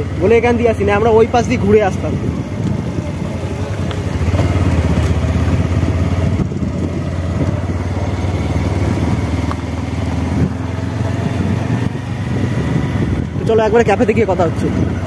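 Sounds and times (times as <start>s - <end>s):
motorbike engine running: 0.0s - 15.0s
road and wind noise: 0.0s - 15.0s.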